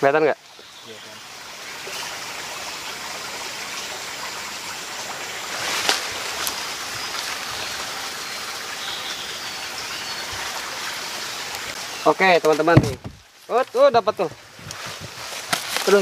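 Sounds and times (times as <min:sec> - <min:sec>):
rushing hiss: 0:00.8 - 0:16.0.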